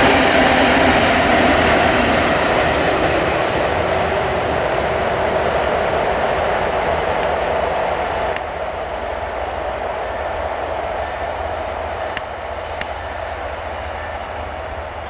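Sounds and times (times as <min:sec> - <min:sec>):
wheel and rail rumble: 0:00.0 - 0:15.0.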